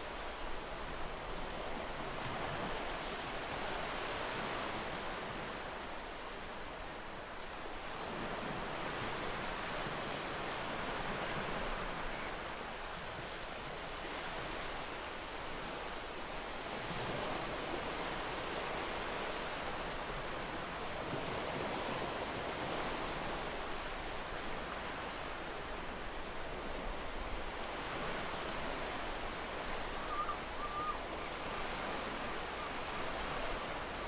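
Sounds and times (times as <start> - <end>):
small waves breaking on beach: 0.0 - 34.0.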